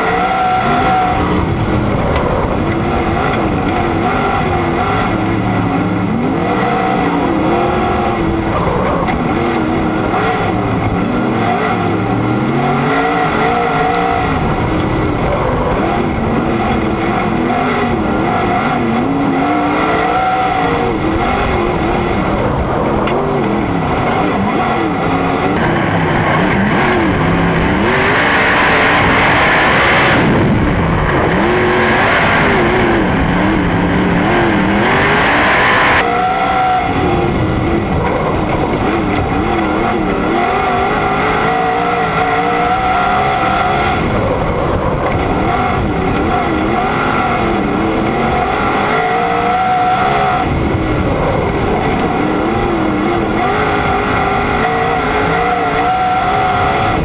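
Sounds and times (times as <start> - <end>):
sprint car engine revving: 0.0 - 57.0
wind and dirt rushing: 0.0 - 57.0.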